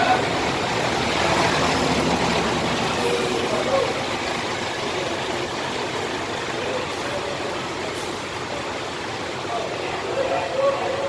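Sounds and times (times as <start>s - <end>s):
diesel bus engine idling: 0.0s - 11.0s.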